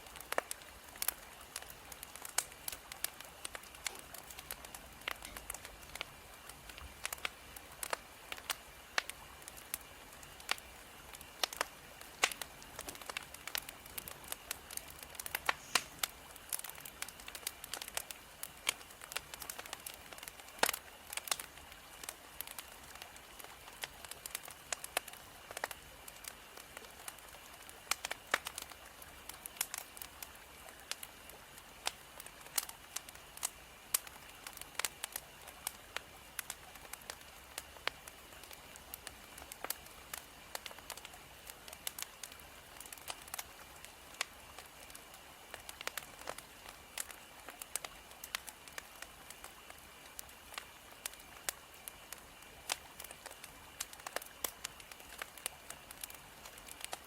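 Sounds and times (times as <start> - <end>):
firewood crackling and popping: 0.0 - 57.0
soft fire hiss: 0.0 - 57.0.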